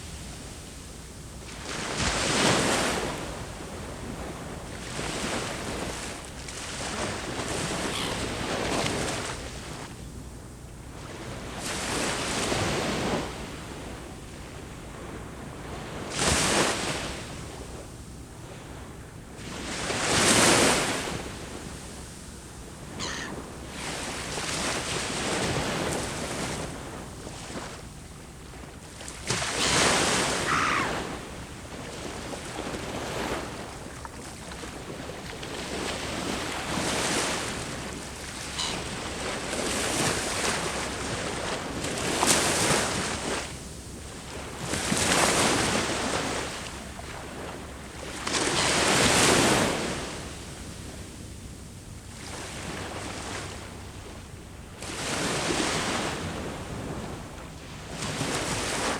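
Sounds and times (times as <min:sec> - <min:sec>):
ocean waves breaking on shore: 0:00.0 - 0:10.0, 0:10.8 - 0:58.9.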